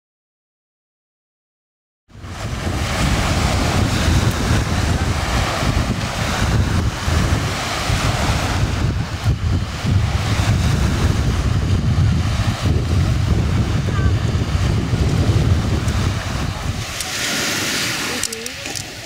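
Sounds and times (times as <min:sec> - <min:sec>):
waves washing over pebbles: 0:02.1 - 0:19.0
wind buffeting microphone: 0:02.1 - 0:19.0.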